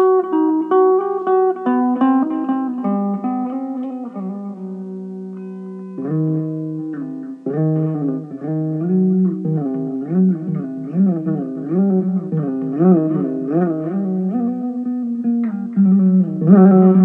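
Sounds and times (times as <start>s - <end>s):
electric mandolin melody: 0.0s - 17.0s.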